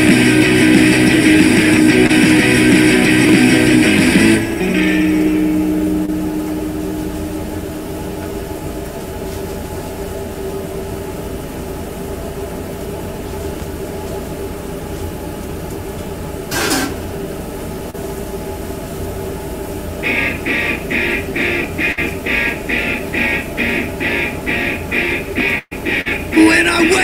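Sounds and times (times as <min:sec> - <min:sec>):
kitchen equipment humming: 0:00.0 - 0:25.3.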